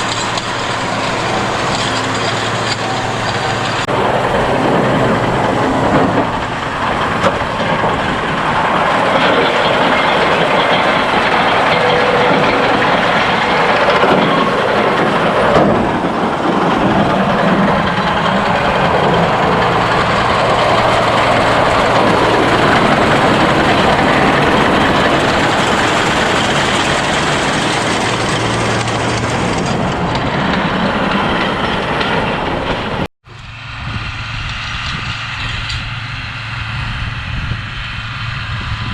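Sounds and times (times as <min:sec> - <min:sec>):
quieter engine: 0:00.0 - 0:38.9
rattling machinery: 0:00.0 - 0:38.9
tractor engine running: 0:00.0 - 0:38.9.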